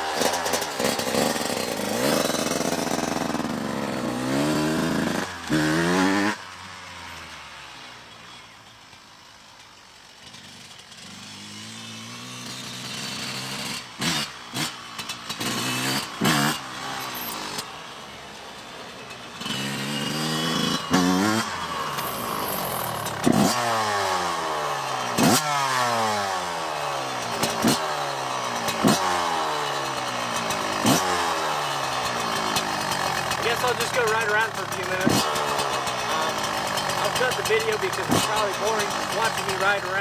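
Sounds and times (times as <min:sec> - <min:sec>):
dirt bike engine revving: 0:00.0 - 0:08.3, 0:10.1 - 0:40.0.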